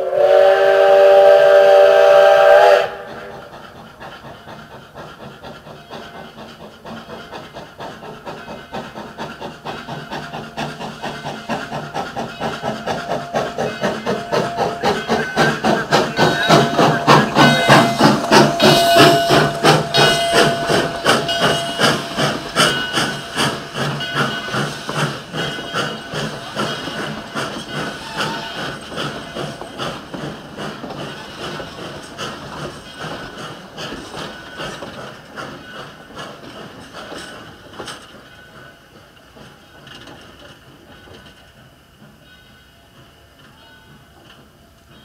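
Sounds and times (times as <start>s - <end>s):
steam hissing: 0.0s - 45.0s
steam locomotive chuffing: 0.0s - 45.0s.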